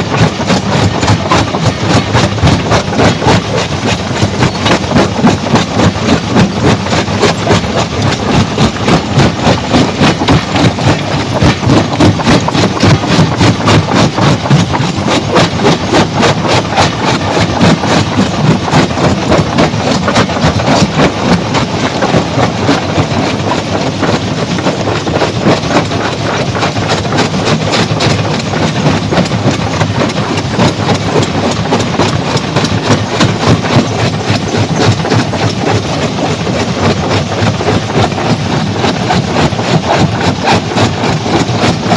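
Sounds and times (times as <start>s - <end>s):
dense grinding noise: 0.0s - 41.9s
stone crusher rhythmic clatter: 0.0s - 41.9s.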